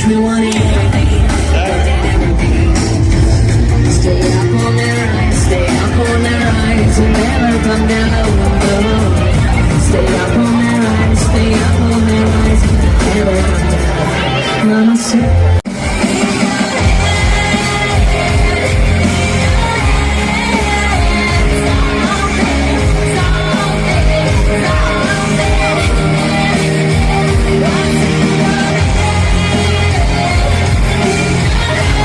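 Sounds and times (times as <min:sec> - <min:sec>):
live rock band with singer: 0:00.0 - 0:32.0.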